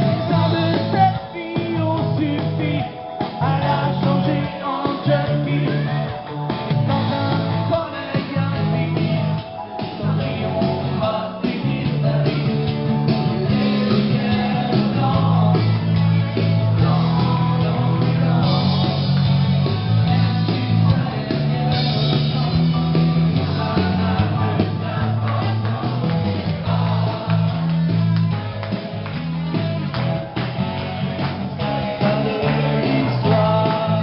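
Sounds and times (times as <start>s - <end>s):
person singing: 0.0s - 28.0s, 31.6s - 34.0s
bass guitar: 0.0s - 34.0s
electric guitar: 0.0s - 34.0s.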